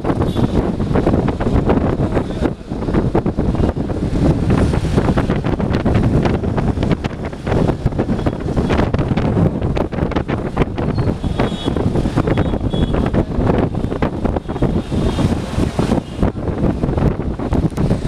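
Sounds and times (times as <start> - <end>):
vehicle engine and road noise: 0.0 - 18.0
wind buffeting microphone: 0.0 - 18.0.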